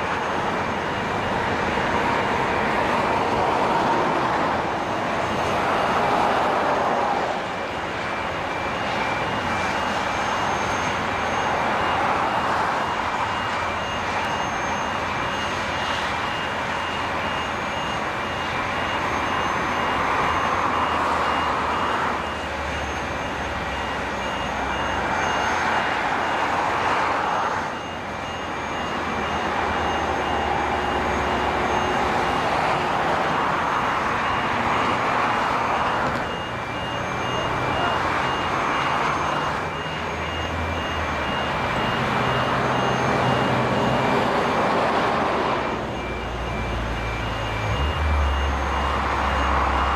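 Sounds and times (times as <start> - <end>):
construction machinery running: 0.0 - 49.9
warning alarm beeping: 0.0 - 49.9.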